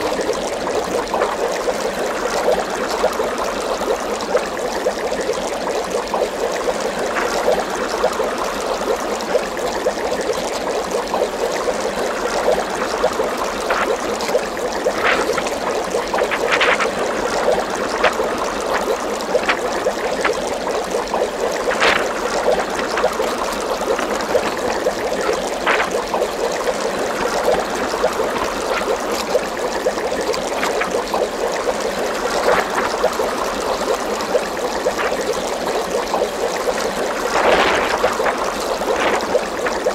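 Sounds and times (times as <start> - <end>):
sharp water drip plinks: 0.0 - 39.9
water trickling and bubbling: 0.0 - 39.9.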